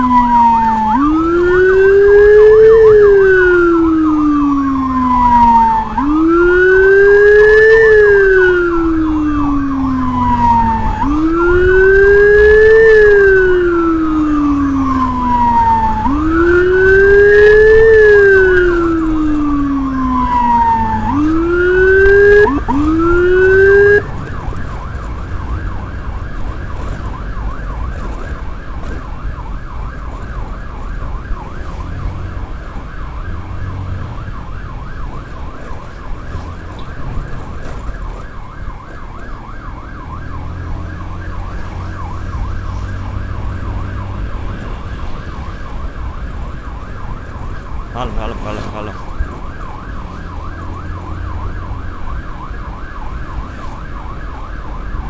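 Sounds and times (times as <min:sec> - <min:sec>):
electronic siren wailing: 0:00.0 - 0:55.0
road noise: 0:00.0 - 0:55.0.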